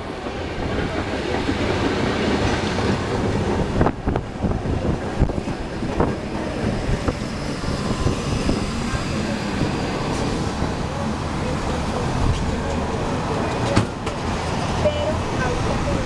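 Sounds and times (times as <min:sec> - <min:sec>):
streetcar wheels rumbling on rail: 0:00.0 - 0:16.0.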